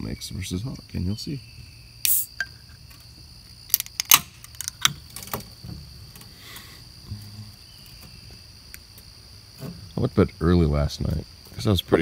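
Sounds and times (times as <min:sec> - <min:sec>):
shrill insect drone: 0:00.0 - 0:12.0.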